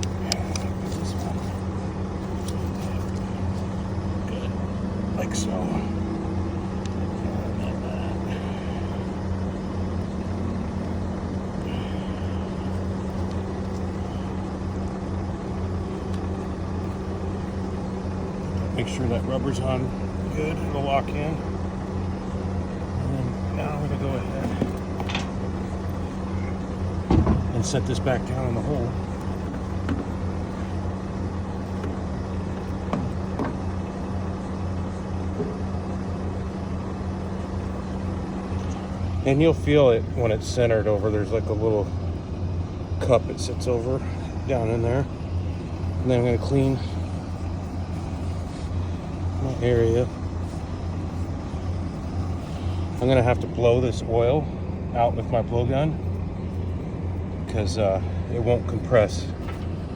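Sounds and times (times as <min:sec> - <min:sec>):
motor droning: 0:00.0 - 0:59.9.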